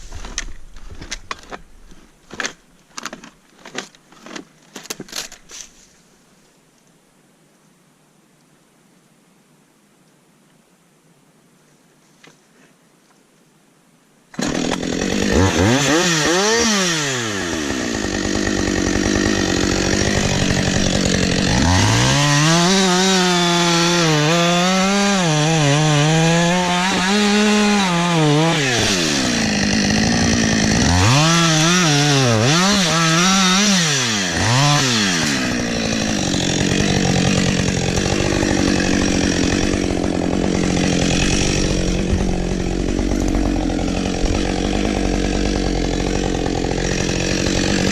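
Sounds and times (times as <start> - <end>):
chainsaw cutting wood: 0.0 - 5.6, 14.3 - 47.9.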